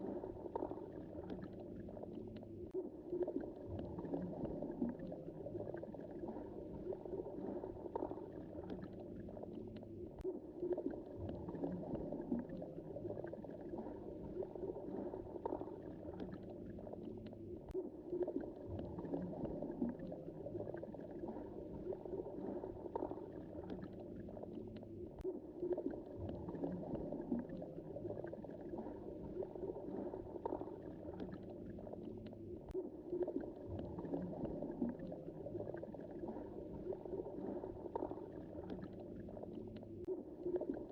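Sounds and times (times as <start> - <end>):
underwater churning and gurgling: 0.0 - 40.9.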